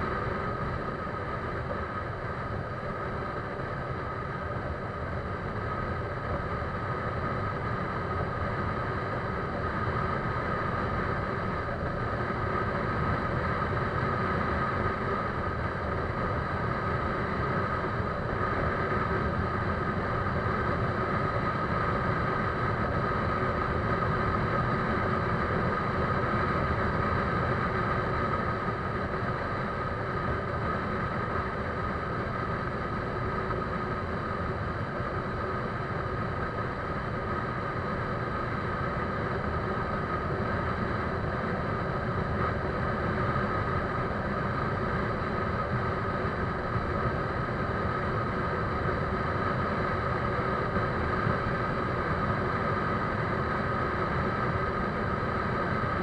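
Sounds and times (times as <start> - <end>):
steady engine drone: 0.0 - 56.0.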